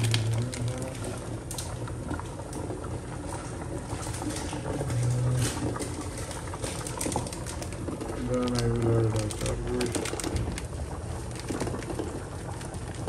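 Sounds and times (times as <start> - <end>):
pot bubbling and crackling: 0.0 - 13.0.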